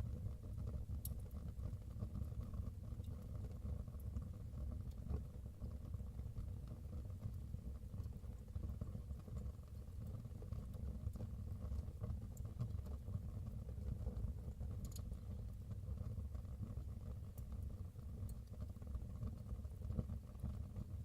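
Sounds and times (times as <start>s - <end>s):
fire rumbling in fireplace: 0.0s - 21.0s.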